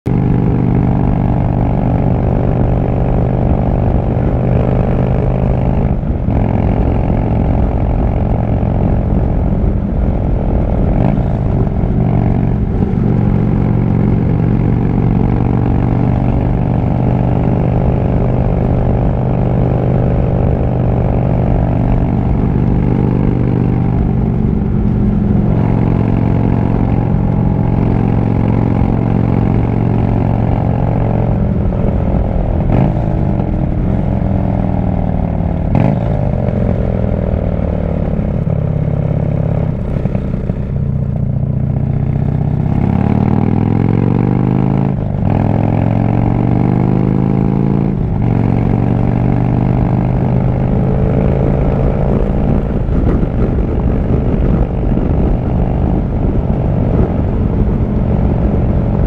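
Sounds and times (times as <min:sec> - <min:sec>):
motorcycle engine riding: 0:00.1 - 0:59.0.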